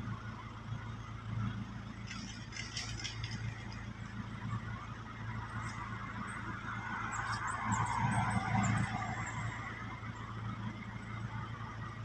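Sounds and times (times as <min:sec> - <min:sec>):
low engine hum: 0:00.0 - 0:12.0
vehicle passing: 0:02.0 - 0:11.8.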